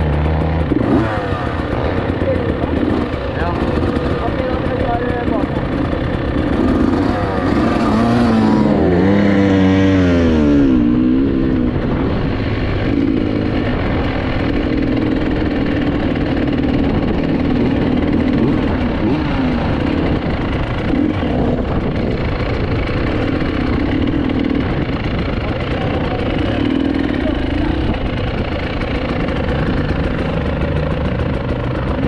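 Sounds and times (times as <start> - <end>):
two-stroke motorcycle engine revving: 0.0 - 32.0.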